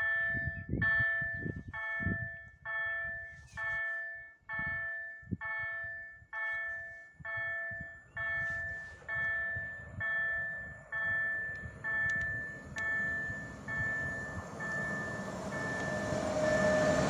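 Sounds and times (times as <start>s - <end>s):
railway warning bell chiming: 0.0s - 17.0s.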